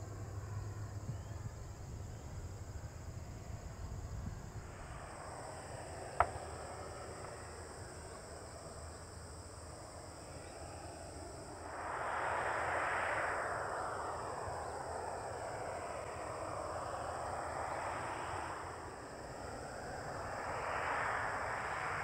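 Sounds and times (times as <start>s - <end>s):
insects chirping: 0.0s - 22.0s
jet airliner engine noise: 0.0s - 22.0s.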